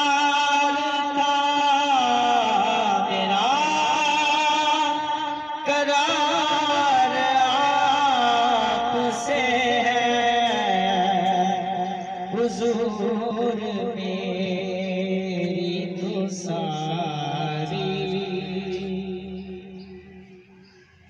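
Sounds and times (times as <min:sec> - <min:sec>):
man singing devotional song: 0:00.0 - 0:20.2.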